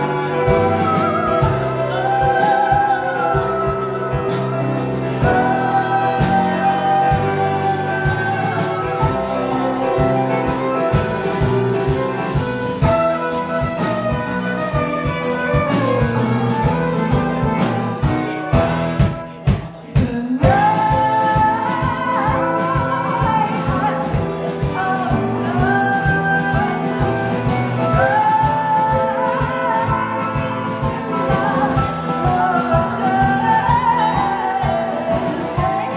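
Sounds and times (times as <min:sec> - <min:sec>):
woman singing: 0:00.0 - 0:16.2, 0:19.6 - 0:35.9
live band playing: 0:00.0 - 0:35.9.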